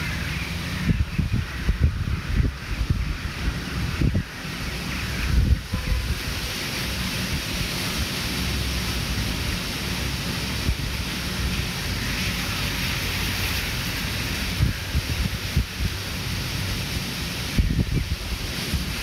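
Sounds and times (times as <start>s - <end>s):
wind buffeting microphone: 0.0s - 8.2s, 9.1s - 19.0s
steady rushing hiss: 0.0s - 19.0s.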